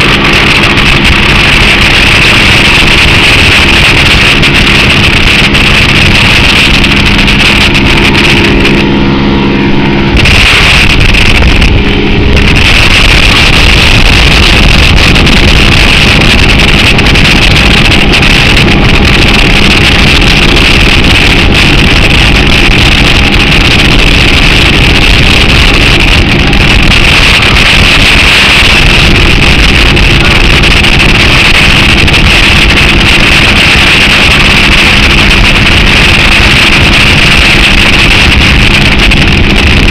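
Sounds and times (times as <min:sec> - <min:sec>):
outboard motorboat running: 0:00.0 - 0:39.9
rush of churning wake: 0:00.0 - 0:39.9
wind on microphone: 0:00.0 - 0:39.9.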